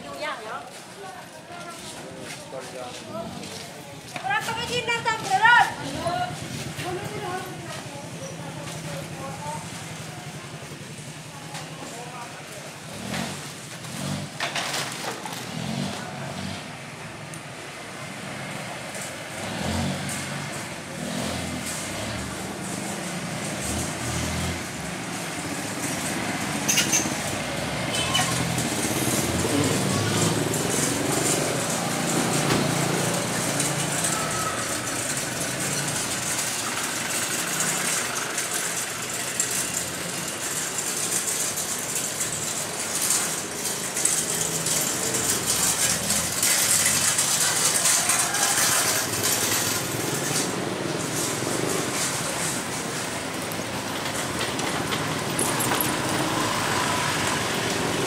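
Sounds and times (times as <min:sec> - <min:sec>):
motorbike and vehicle engines: 0:00.0 - 0:58.0.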